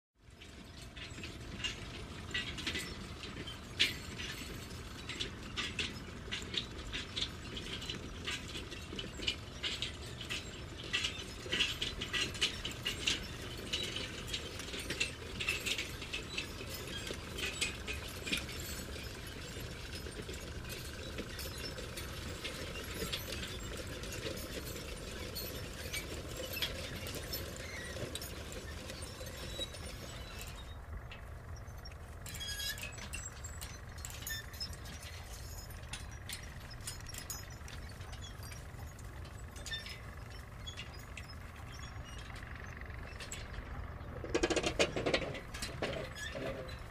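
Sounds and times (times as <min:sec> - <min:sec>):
metallic clinks and clatters: 0:00.4 - 0:46.9.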